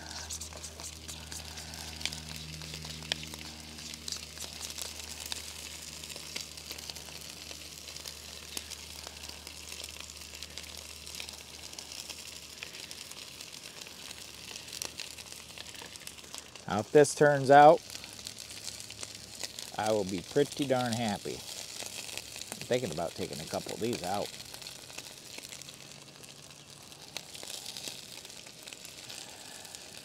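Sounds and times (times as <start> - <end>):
low steady hum: 0.0 - 30.0
sausages sizzling and crackling: 0.0 - 30.0.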